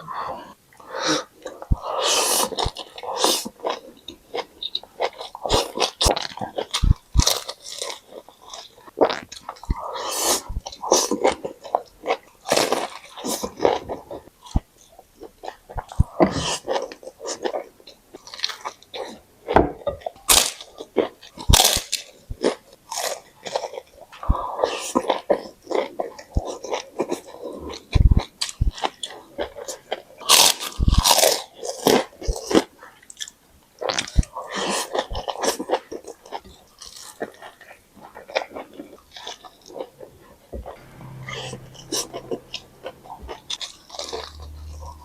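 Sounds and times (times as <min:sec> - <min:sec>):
chewing crunchy food: 0:01.1 - 0:40.8.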